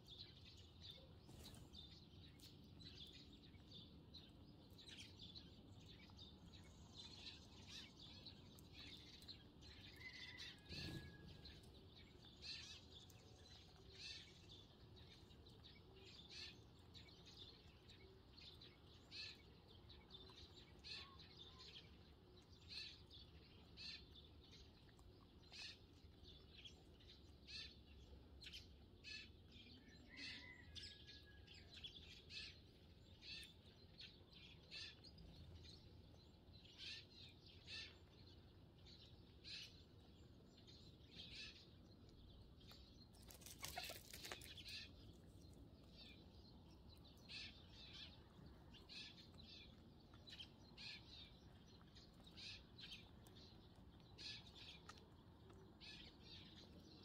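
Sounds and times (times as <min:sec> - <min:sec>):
sparrows chirping faintly: 0:00.0 - 0:57.0.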